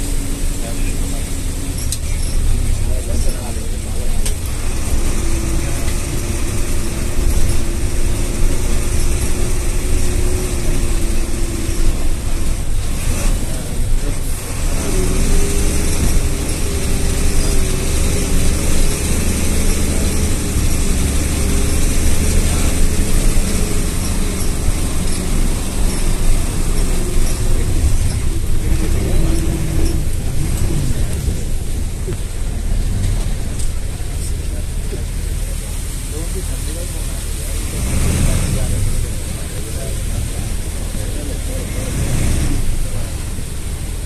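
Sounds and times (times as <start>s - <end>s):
bus engine running: 0.0s - 44.0s
road noise: 0.0s - 44.0s.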